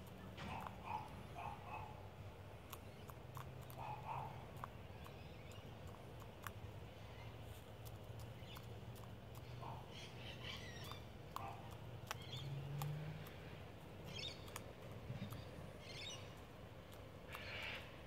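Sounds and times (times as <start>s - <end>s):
beak pecking ground clicks: 0.0s - 18.0s
small birds chirping: 0.0s - 18.0s.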